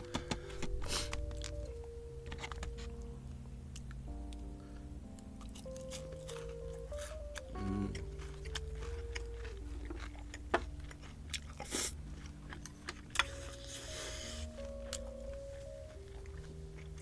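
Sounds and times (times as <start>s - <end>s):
crunchy chewing: 0.1s - 3.1s, 5.1s - 17.0s.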